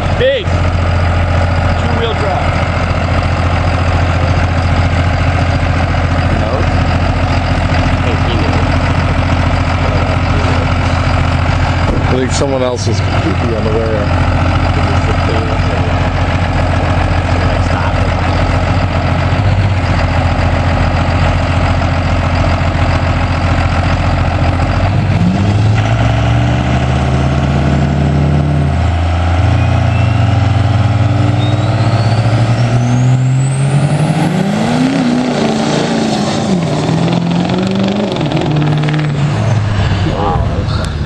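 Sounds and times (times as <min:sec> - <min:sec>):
truck engine revving: 0:00.0 - 0:41.0.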